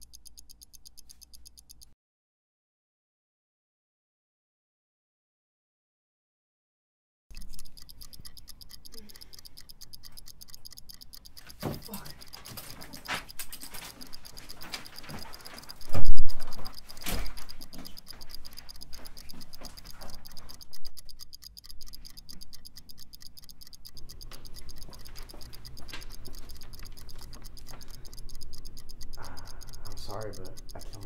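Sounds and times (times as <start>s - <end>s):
fast clock-like ticking: 0.0s - 2.0s, 7.3s - 31.0s.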